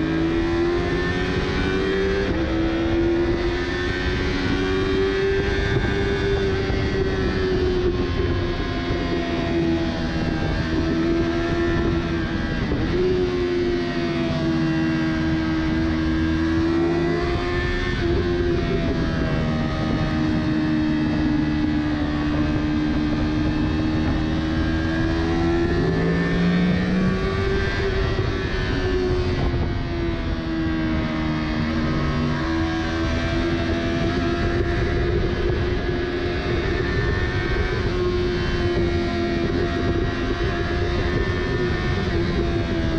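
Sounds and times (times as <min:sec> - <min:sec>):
motorcycle engine at high revs: 0:00.0 - 0:42.9
wind noise: 0:00.0 - 0:42.9.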